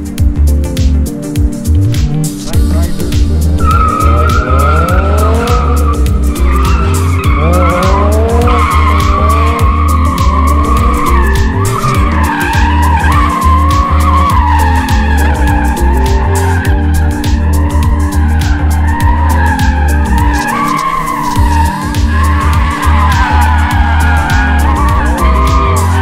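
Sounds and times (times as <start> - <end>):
car engine revving: 0.0 - 26.0
music with heavy bass beat: 0.0 - 26.0
tyres squealing: 2.4 - 26.0.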